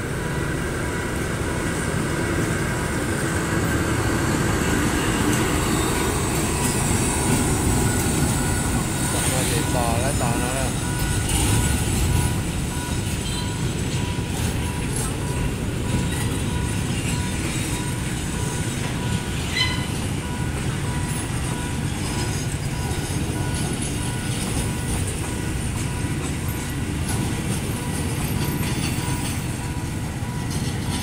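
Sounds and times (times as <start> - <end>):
rumble of train wheels on rail: 0.0 - 31.0.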